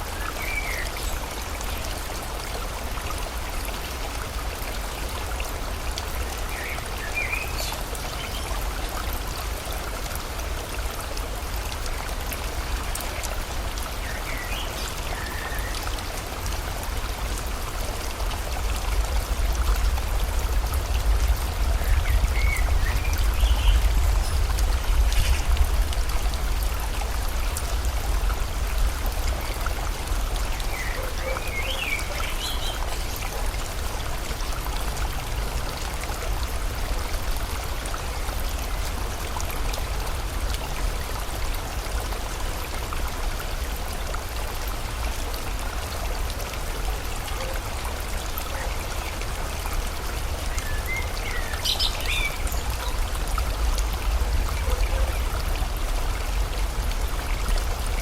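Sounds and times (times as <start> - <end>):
rain falling: 0.0 - 58.0
river water rushing: 0.0 - 58.0.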